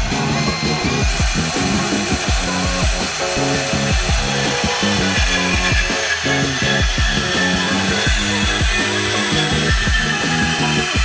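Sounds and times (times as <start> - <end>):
band saw cutting metal pipe: 0.0 - 11.0
music with heavy bass-drum beat: 0.0 - 11.0.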